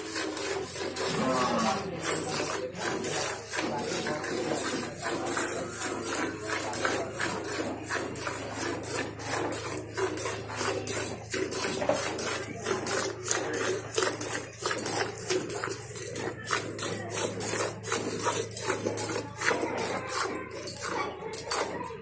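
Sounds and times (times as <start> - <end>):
milk squirting into a pail: 0.0 - 21.0.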